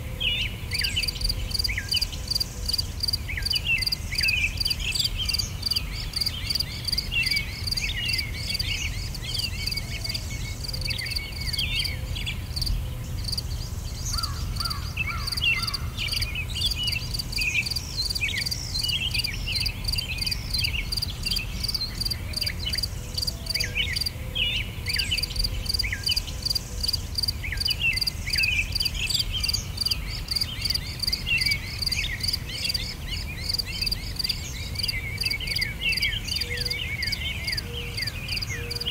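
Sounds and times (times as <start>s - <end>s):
insects chirping rhythmically: 1.0s - 24.2s, 24.9s - 38.5s.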